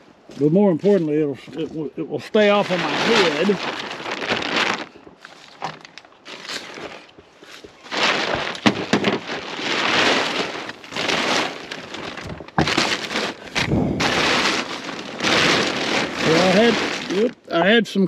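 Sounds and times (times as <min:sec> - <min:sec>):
plastic tarp rustling: 0:00.4 - 0:17.6.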